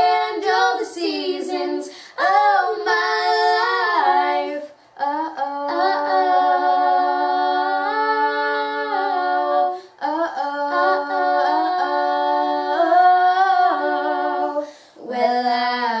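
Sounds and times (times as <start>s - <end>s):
children singing in harmony: 0.0s - 4.7s, 5.7s - 16.0s.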